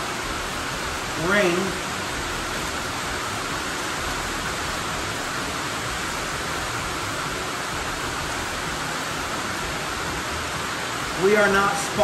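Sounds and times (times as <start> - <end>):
rain on a metal roof: 0.0 - 12.0.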